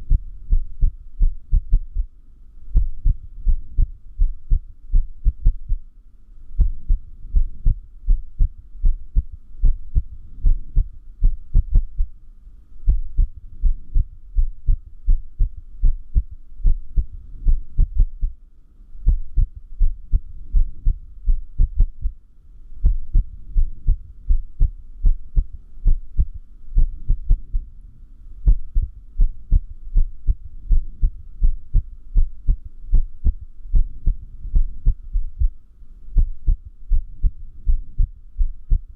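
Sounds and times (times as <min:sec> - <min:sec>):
irregular heartbeat: 0:00.0 - 0:05.9, 0:06.6 - 0:12.2, 0:12.8 - 0:18.4, 0:19.0 - 0:22.2, 0:22.8 - 0:27.8, 0:28.4 - 0:38.9.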